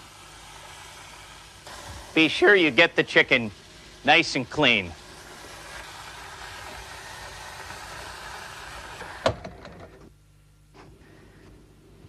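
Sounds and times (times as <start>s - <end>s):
tap water running: 0.0s - 9.8s.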